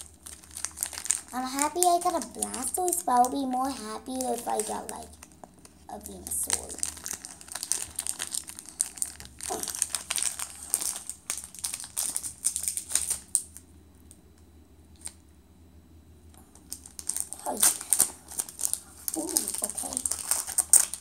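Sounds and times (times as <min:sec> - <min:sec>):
foil wrapper crinkling: 0:00.0 - 0:13.6, 0:16.4 - 0:21.0.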